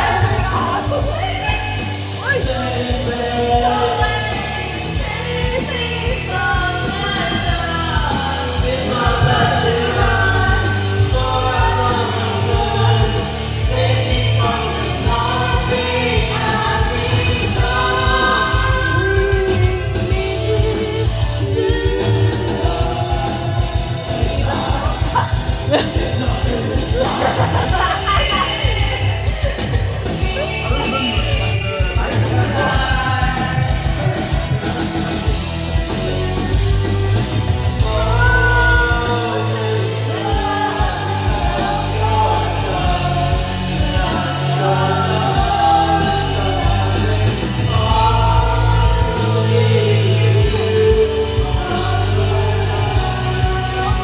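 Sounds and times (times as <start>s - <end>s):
person singing: 0.0s - 54.0s
steady bass line: 0.0s - 54.0s.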